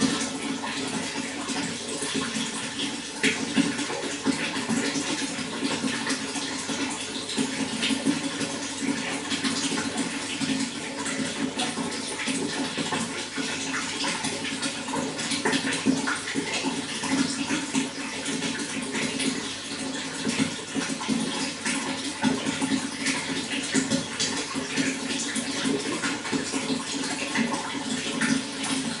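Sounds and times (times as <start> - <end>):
running water splashing: 0.0 - 29.0.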